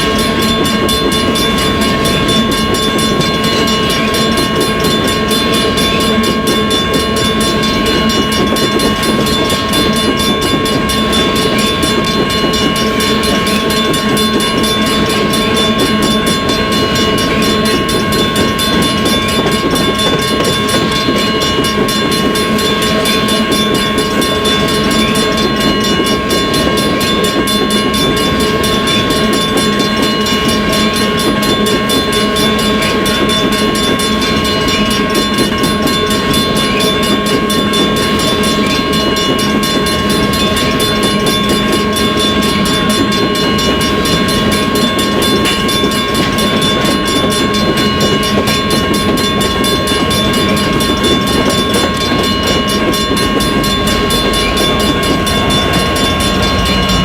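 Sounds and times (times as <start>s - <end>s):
steady high tone: 0.0s - 57.0s
wheels rumbling on rail: 0.0s - 57.0s.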